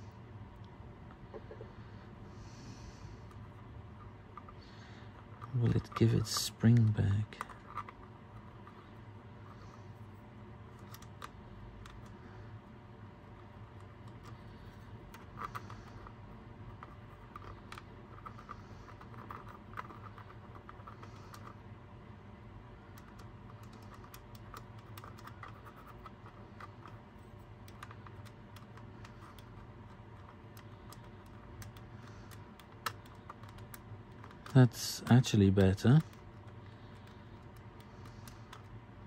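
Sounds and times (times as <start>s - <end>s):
low steady hum: 0.0s - 39.0s
small plastic clicks and scratches: 3.3s - 9.9s, 10.7s - 12.2s, 13.2s - 21.6s, 22.8s - 38.8s.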